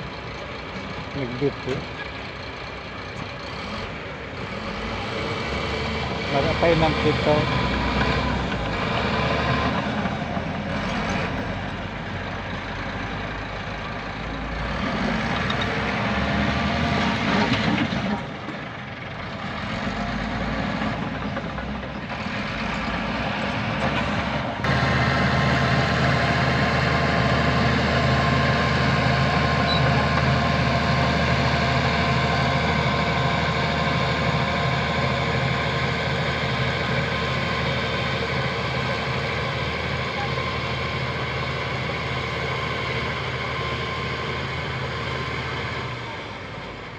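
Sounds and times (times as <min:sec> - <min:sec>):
heavy diesel engines: 0:00.0 - 0:46.9.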